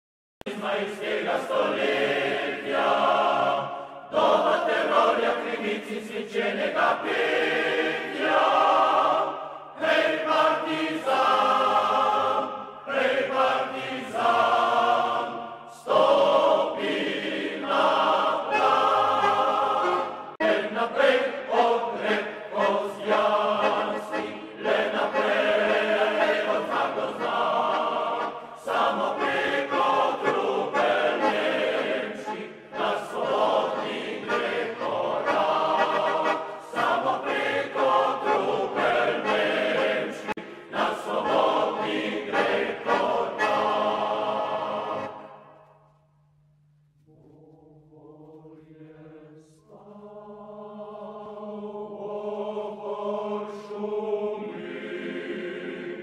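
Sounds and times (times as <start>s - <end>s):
choir singing: 0.4s - 45.8s, 47.1s - 56.0s.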